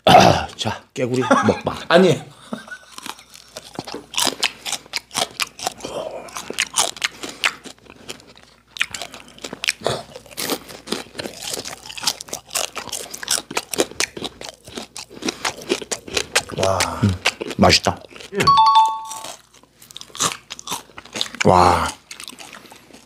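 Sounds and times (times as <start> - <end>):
man crunching and chewing food: 2.6 - 23.0.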